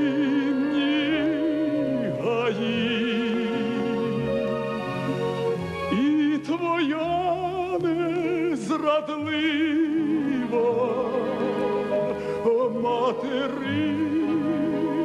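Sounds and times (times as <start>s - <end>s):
man singing operatically: 0.0s - 4.2s, 5.9s - 15.0s
instrumental accompaniment: 0.0s - 15.0s.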